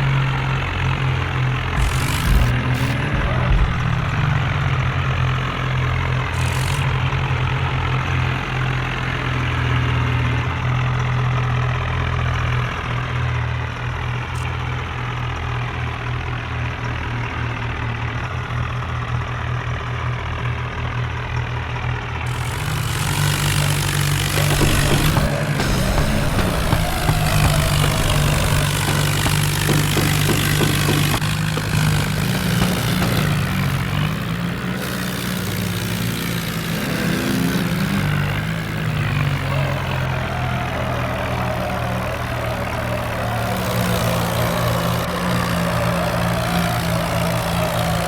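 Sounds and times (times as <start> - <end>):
diesel tractor engines rumbling: 0.0 - 48.0.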